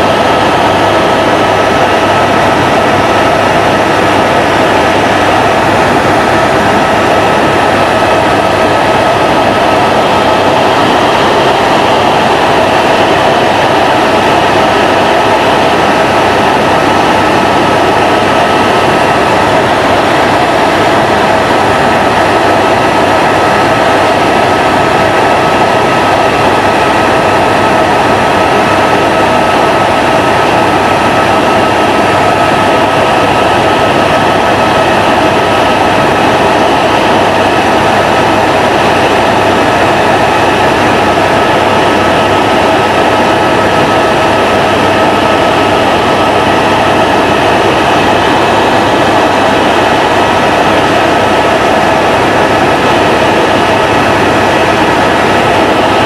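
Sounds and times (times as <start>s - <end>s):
aircraft engine drone in cabin: 0.0s - 56.0s.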